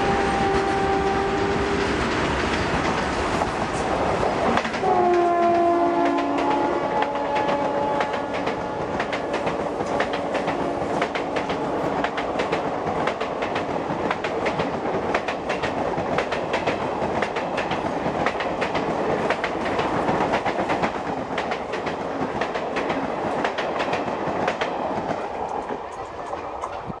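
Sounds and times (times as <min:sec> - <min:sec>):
train rumbling past: 0:00.0 - 0:27.0.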